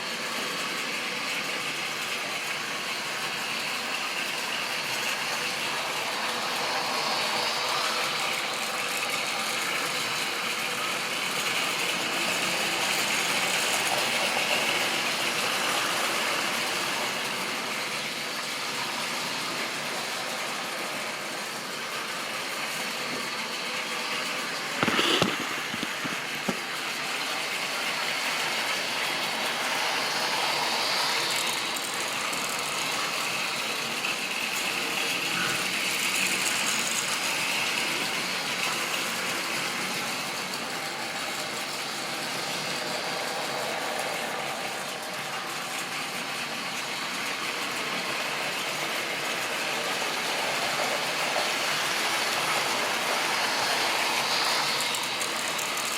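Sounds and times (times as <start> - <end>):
model train whirring and rattling: 0.0 - 55.9.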